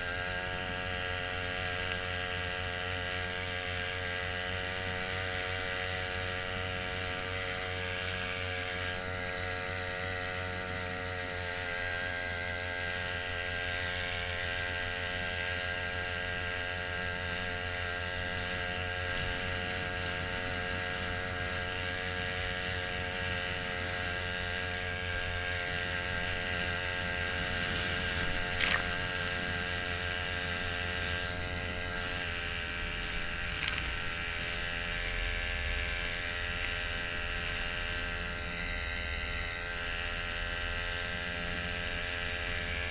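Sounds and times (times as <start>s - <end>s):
small outboard motor running: 0.0s - 42.9s.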